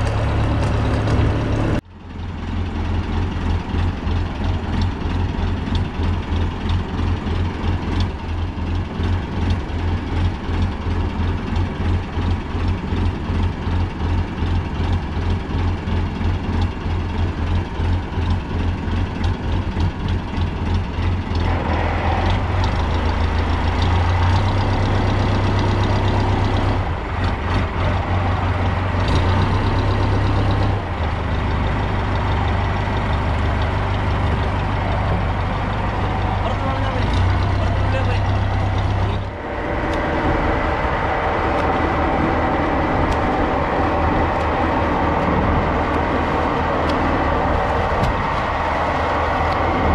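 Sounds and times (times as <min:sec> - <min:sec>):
boat engine throbbing: 0:00.0 - 0:49.9.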